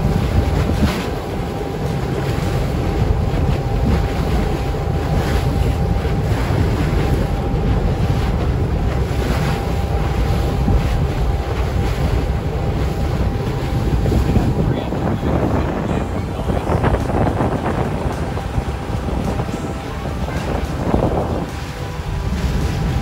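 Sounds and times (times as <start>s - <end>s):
boat engine drone: 0.0s - 23.0s
water rushing along hull: 0.0s - 23.0s
wind buffeting microphone: 0.0s - 23.0s.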